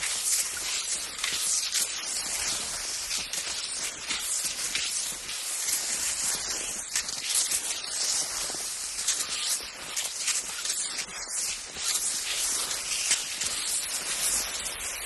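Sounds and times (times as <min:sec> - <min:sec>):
skis sliding over snow: 0:00.0 - 0:15.0.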